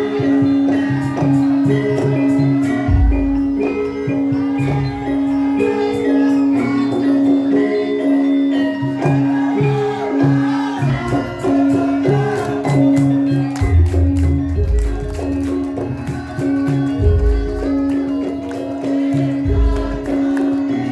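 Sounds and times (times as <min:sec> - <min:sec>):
gamelan music: 0:00.0 - 0:20.9.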